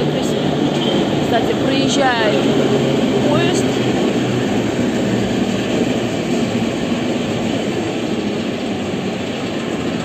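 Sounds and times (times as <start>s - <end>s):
train rumbling past: 0.0s - 10.0s.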